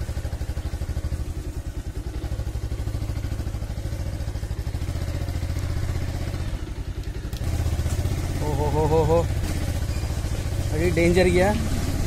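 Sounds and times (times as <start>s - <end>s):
motorcycle engine running slowly: 0.0s - 12.0s.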